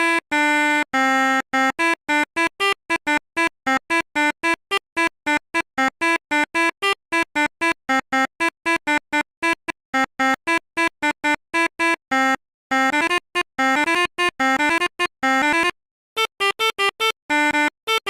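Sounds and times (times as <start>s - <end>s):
musical bus horn tune: 0.0s - 18.0s.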